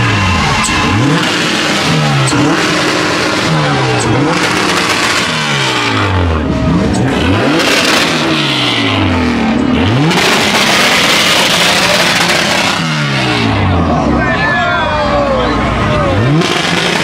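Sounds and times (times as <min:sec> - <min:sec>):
car engine revving hard: 0:00.0 - 0:14.2, 0:15.5 - 0:17.0.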